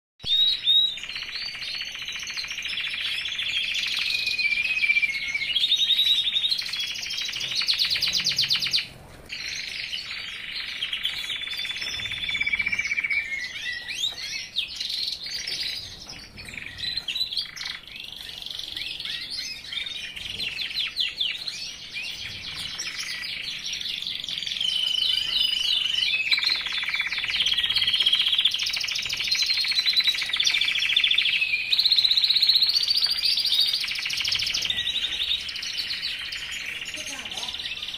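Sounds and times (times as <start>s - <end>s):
songbird warbling and trilling: 0.2s - 37.9s.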